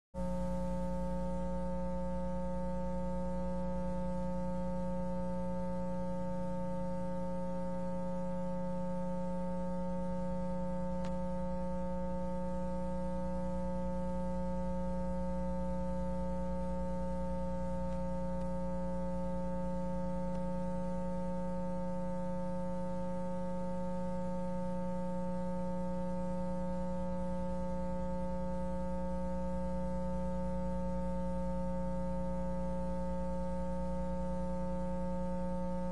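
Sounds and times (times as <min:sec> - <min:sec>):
electrical mains hum: 0:00.2 - 0:35.9.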